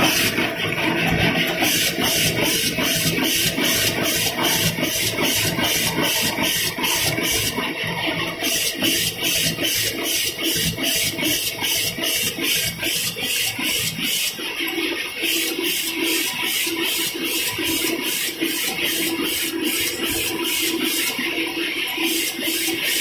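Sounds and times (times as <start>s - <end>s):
wrapping machine cycling rhythmically: 0.0s - 23.0s.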